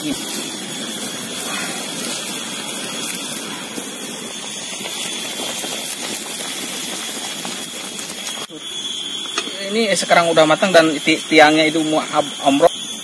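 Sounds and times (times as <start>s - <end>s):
broth boiling hard: 0.0s - 13.0s.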